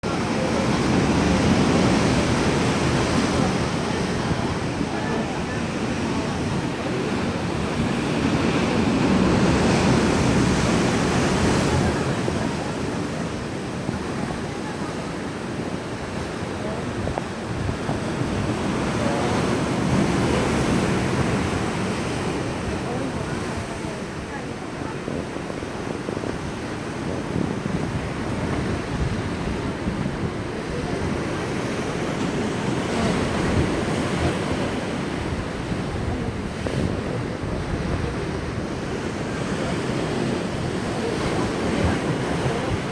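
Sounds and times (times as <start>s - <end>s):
sea waves breaking on shore: 0.0s - 42.9s
wind buffeting microphone: 0.0s - 42.9s.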